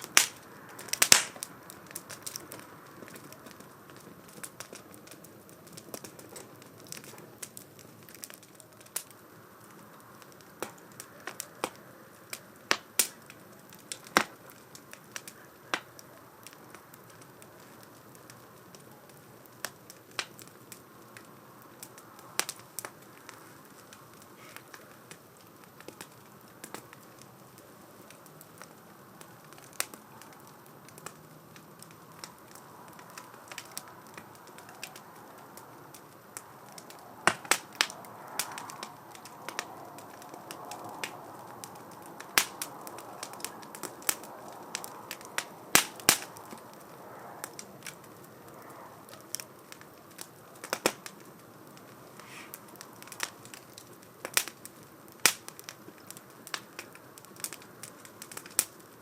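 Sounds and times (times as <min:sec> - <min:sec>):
fire popping and crackling: 0:00.0 - 0:59.0
fire rushing: 0:00.0 - 0:59.0.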